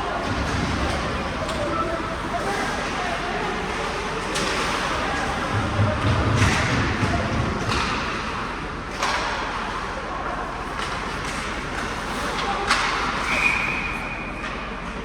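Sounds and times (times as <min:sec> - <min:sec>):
steady hall hum: 0:00.0 - 0:15.0.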